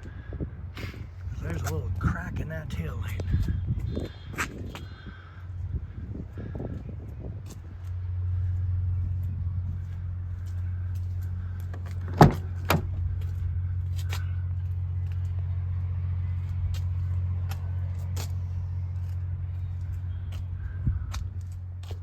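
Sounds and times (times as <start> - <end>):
vehicle engine idling: 0.1 - 22.0.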